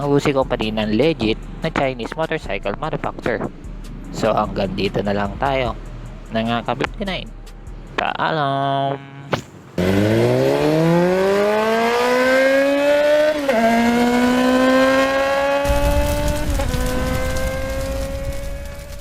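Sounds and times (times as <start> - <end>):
vehicle engine accelerating: 0.0 - 19.0.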